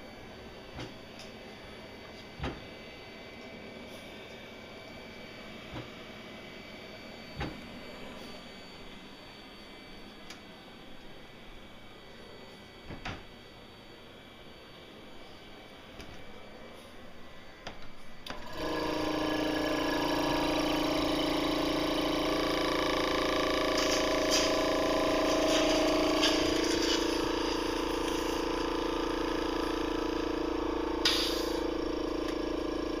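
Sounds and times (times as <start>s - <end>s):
machine blower humming: 0.0s - 33.0s.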